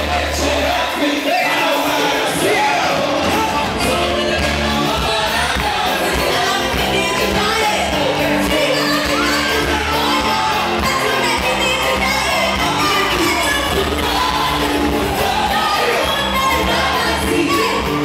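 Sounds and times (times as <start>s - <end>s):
group of singers singing: 0.0s - 18.0s
keyboard-led band with steady beat: 0.0s - 18.0s.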